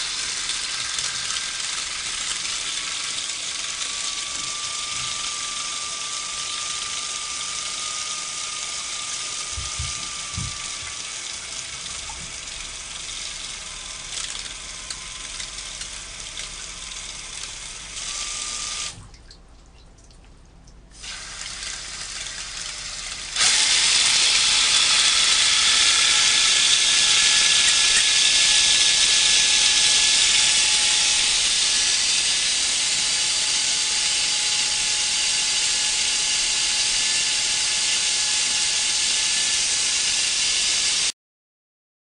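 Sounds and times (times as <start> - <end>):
shower water spraying: 0.0 - 19.0, 21.0 - 41.1.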